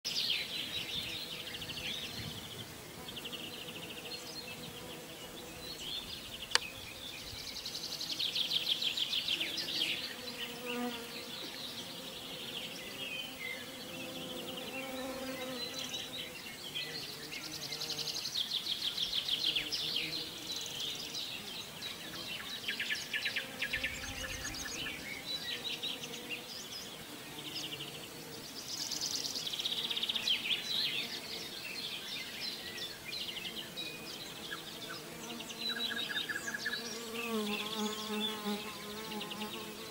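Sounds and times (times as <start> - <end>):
buzzing insect: 0.1 - 39.9
songbirds trilling: 0.1 - 39.9.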